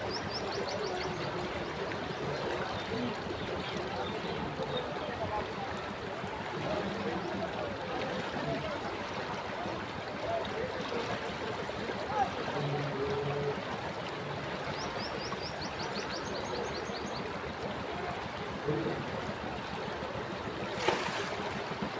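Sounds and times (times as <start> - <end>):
river water rushing: 0.0 - 21.9.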